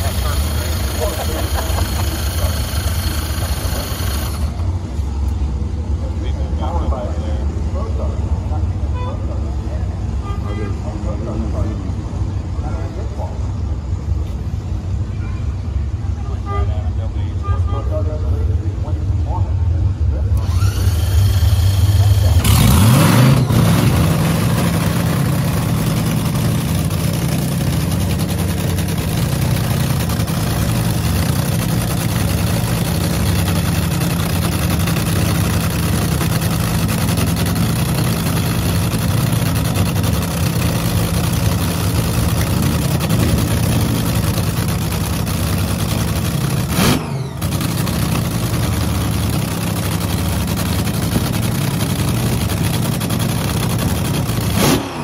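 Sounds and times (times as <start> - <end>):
dragster engine idling: 0.0 - 10.0, 16.9 - 54.6.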